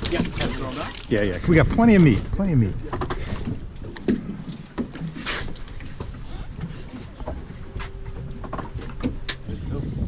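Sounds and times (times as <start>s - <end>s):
wind and water rumble: 0.0s - 10.0s.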